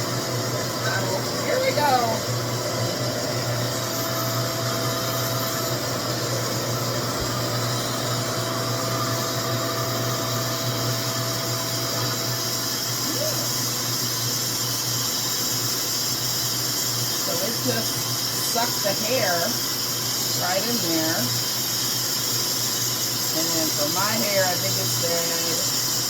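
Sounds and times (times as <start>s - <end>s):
hair dryer vacuum suction: 0.0s - 26.0s.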